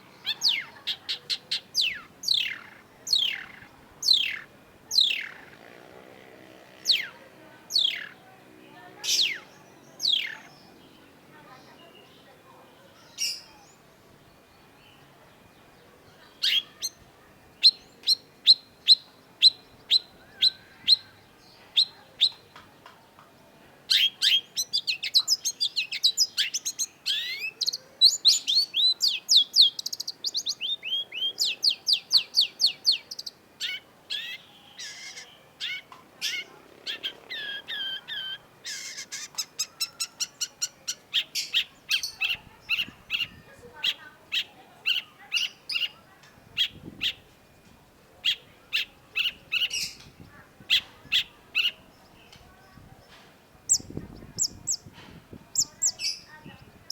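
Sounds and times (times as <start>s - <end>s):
bird singing: 0.0s - 54.9s, 55.5s - 56.9s.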